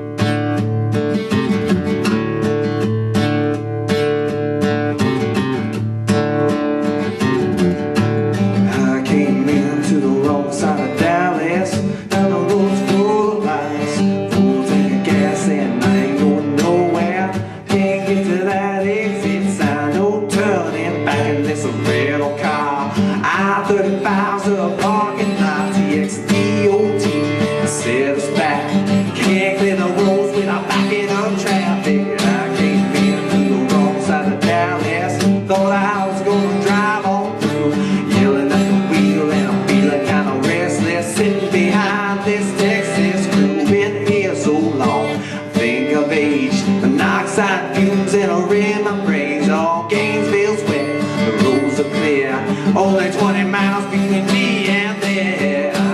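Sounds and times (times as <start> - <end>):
strummed acoustic guitar: 0.0 - 55.9
person singing: 8.5 - 55.9.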